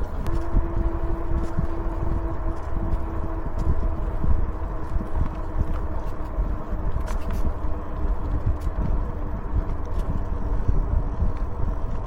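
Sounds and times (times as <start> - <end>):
faint steady hum: 0.0 - 12.0
road noise: 0.0 - 12.0
wind on microphone: 0.0 - 12.0.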